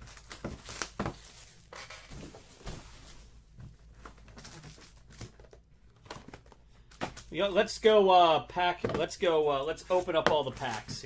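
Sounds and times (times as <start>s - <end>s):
card packs rustling: 0.0s - 7.4s, 9.0s - 11.0s.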